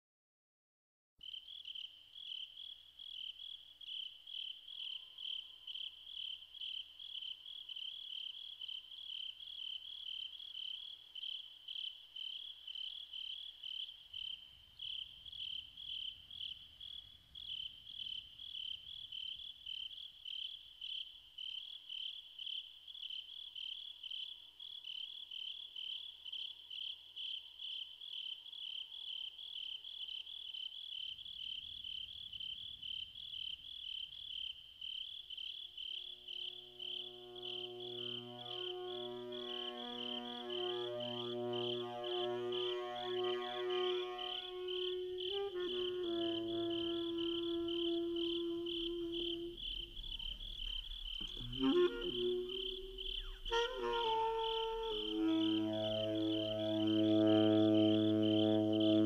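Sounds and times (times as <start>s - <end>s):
crickets chirping: 1.2s - 59.0s.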